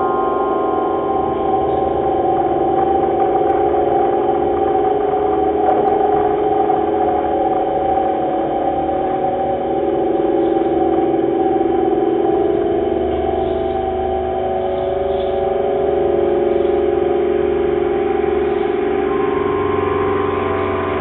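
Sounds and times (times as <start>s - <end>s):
electronic drone music: 0.0s - 21.0s.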